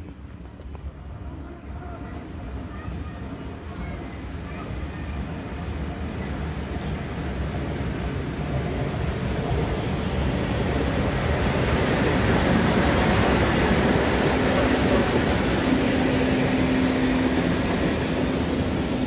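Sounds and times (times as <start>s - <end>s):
steam locomotive rumble and hiss: 3.4s - 19.0s.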